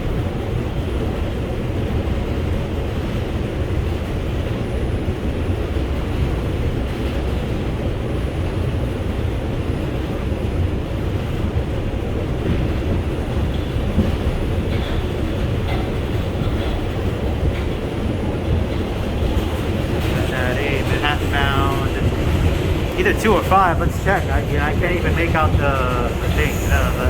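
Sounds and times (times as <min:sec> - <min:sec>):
subway wheels rumbling on rails: 0:00.0 - 0:27.0.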